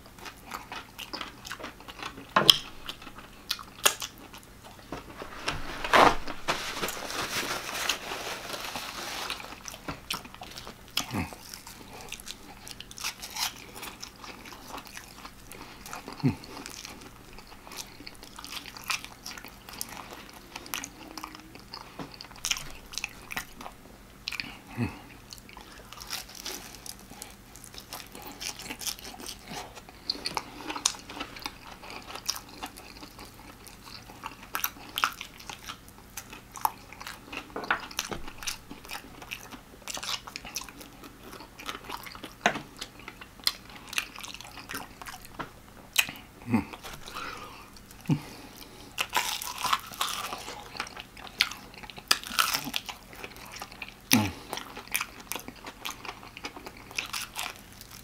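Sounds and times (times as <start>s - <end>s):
crunchy chewing of fried chicken: 0.0s - 58.0s.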